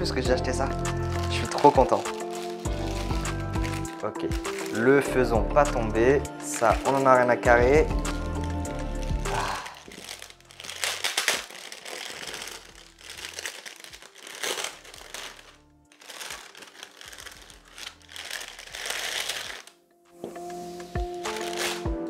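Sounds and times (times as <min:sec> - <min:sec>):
plastic bag crinkling: 0:00.0 - 0:05.1, 0:06.5 - 0:07.3, 0:08.0 - 0:19.8, 0:21.0 - 0:22.0
quiet background music: 0:00.0 - 0:22.0.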